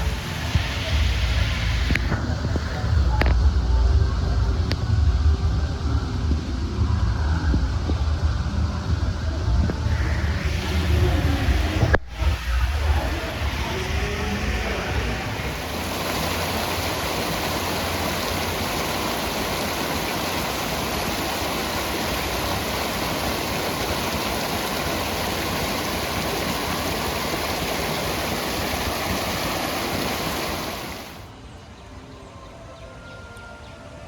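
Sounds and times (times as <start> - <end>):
steady rushing noise: 0.0 - 31.6.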